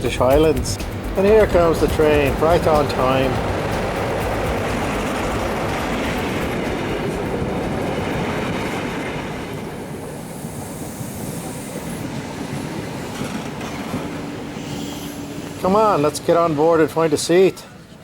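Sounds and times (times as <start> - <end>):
passenger train slowing: 0.0 - 18.0.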